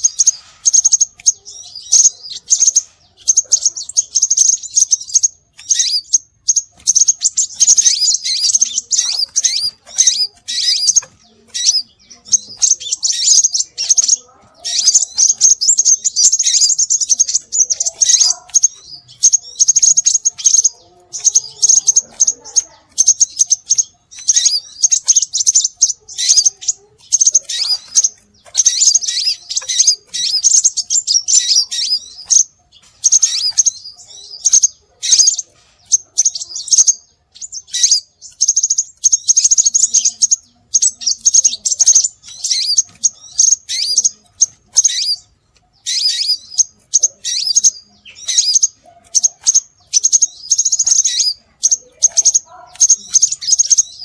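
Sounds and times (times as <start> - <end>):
bird high-pitched chirping: 0.0 - 54.0.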